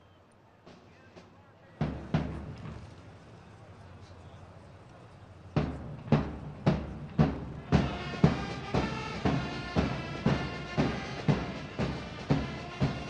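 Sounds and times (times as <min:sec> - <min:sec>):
marching band melody: 0:00.6 - 0:13.0.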